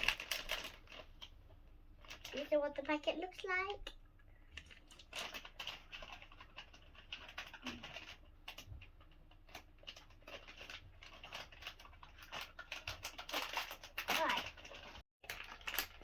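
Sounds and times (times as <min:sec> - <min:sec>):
plastic packet crinkling: 0:00.0 - 0:01.4, 0:02.0 - 0:16.0.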